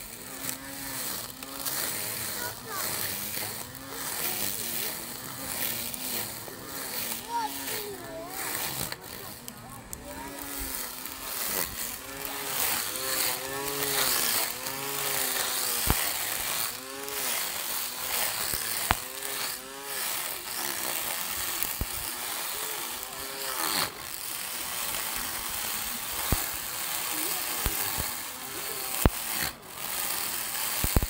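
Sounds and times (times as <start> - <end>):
electric grass trimmer whirring: 0.0 - 31.0.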